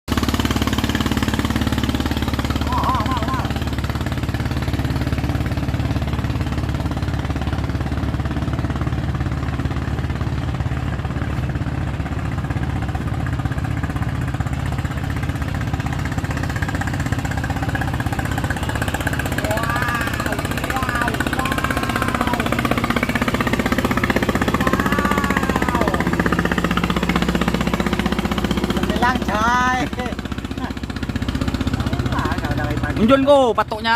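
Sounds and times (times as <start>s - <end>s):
boat engine puttering: 0.1s - 33.9s.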